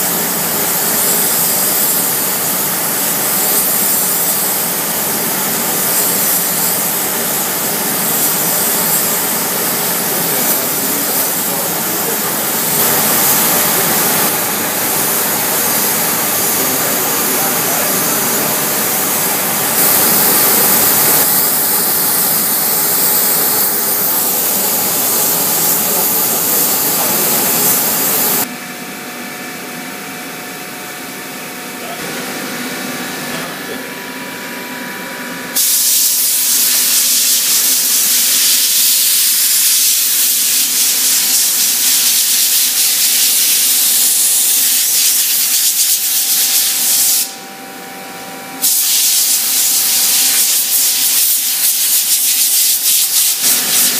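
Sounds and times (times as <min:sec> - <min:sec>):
spray gun hissing: 0:00.0 - 0:28.5, 0:35.6 - 0:47.4, 0:48.6 - 0:53.9.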